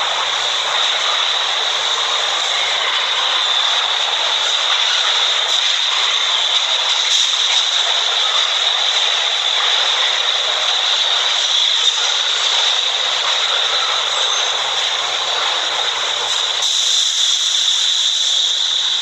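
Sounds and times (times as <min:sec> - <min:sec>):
train wheels rushing on rail: 0:00.0 - 0:19.0.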